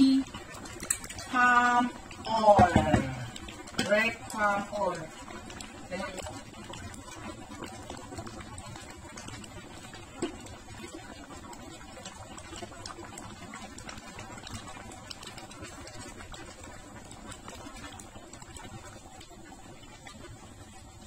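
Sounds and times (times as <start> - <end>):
porridge bubbling in a pot: 0.0 - 21.0.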